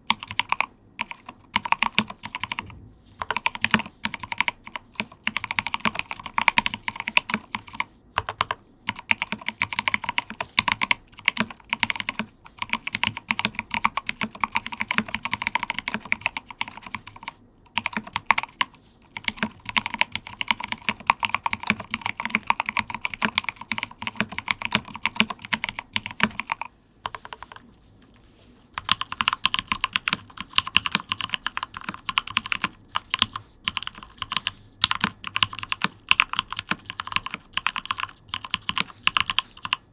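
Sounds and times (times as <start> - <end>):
typing on mechanical keyboard: 0.0 - 27.7, 28.8 - 39.9.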